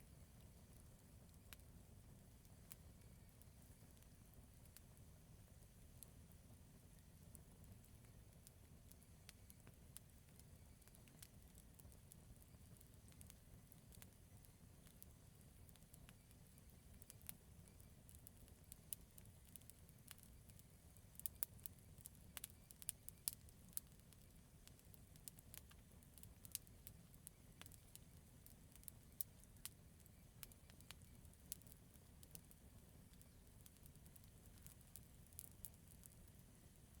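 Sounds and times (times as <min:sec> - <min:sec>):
campfire crackling and popping: 0:00.2 - 0:37.0.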